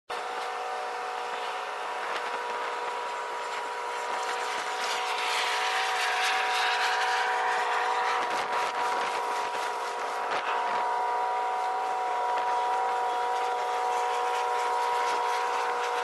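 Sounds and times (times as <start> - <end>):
ship engines droning: 0.1 - 16.0.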